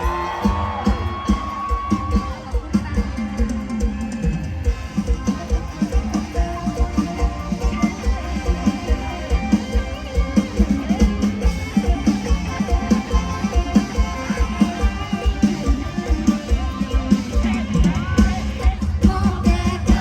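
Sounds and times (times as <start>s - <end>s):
drum kit fast beat: 0.0s - 20.0s
guitar: 0.0s - 20.0s.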